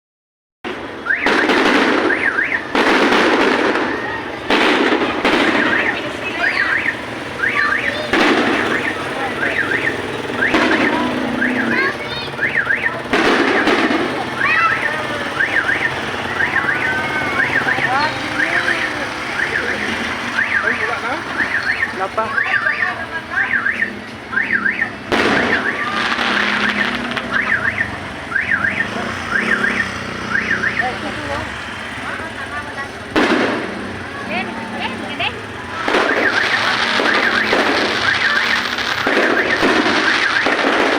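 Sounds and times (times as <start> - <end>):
fireworks bursting and crackling: 0.7 - 40.9
car alarm warbling: 1.0 - 32.0, 33.9 - 40.9.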